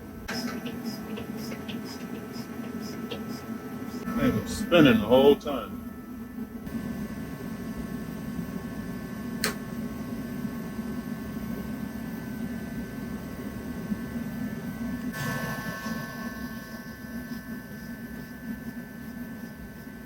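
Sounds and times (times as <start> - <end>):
heater blower fan whirring: 0.0 - 20.0.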